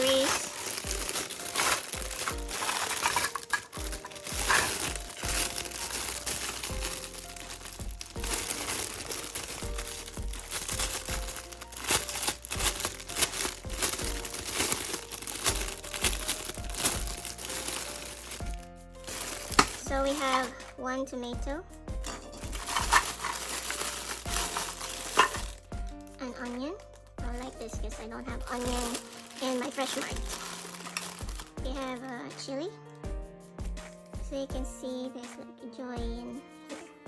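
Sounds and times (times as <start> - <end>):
plastic packaging crinkling: 0.0 - 20.6, 22.0 - 32.3
background music: 0.0 - 37.0.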